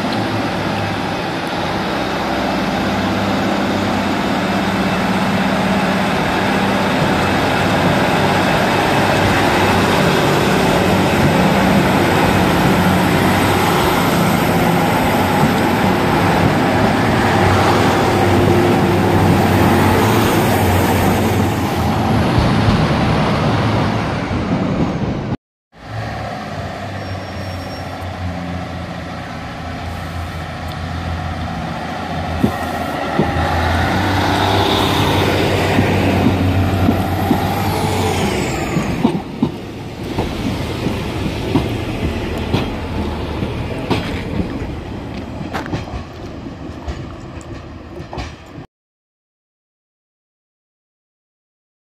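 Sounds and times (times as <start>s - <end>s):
diesel train engines droning: 0.0s - 48.6s
diesel train passing: 0.0s - 48.7s.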